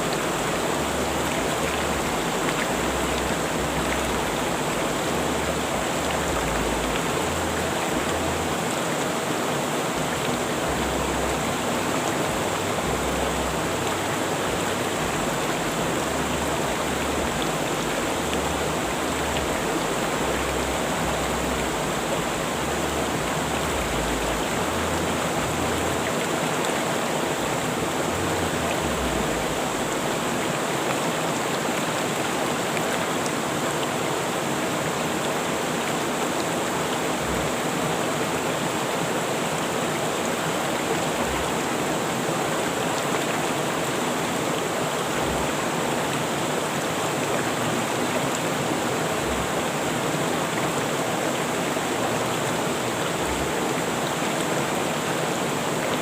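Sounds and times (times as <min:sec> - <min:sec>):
river water rushing over rocks: 0:00.0 - 0:56.0.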